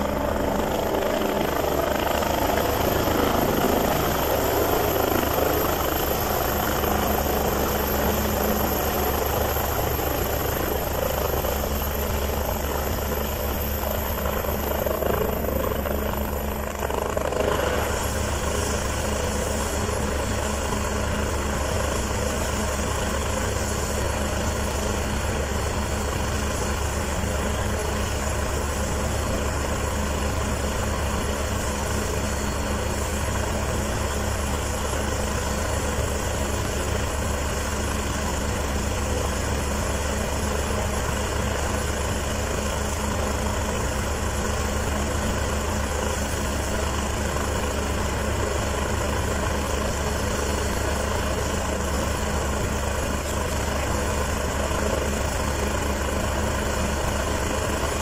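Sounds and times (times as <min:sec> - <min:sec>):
helicopter engine and rotor running: 0:00.0 - 0:58.0.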